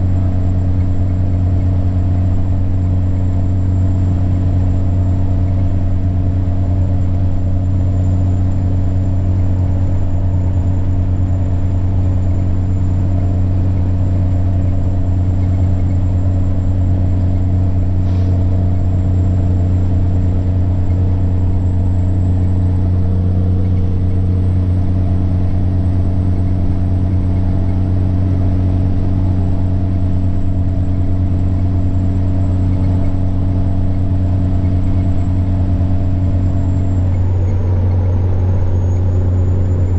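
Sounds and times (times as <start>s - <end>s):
diesel truck engine droning: 0.0s - 39.9s
high turbocharger whine: 0.0s - 39.9s.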